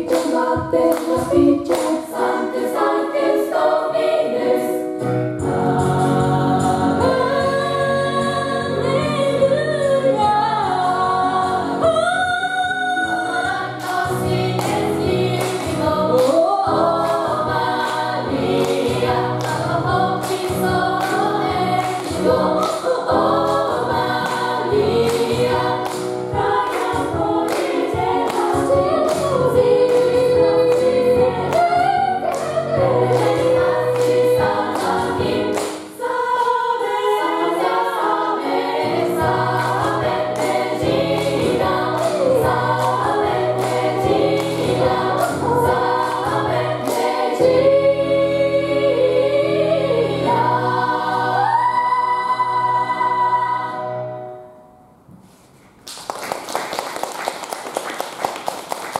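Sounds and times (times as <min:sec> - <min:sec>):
gospel choir singing: 0:00.0 - 0:54.4.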